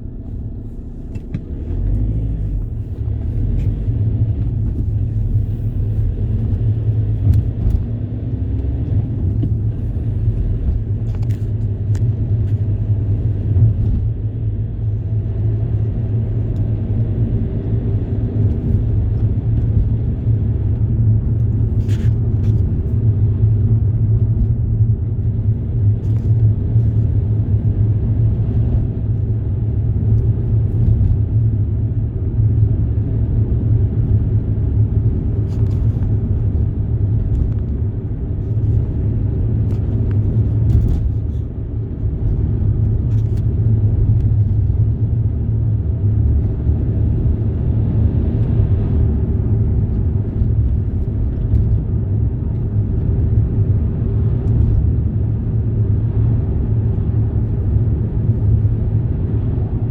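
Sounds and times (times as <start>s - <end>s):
road vehicle rumble: 0.0s - 59.9s.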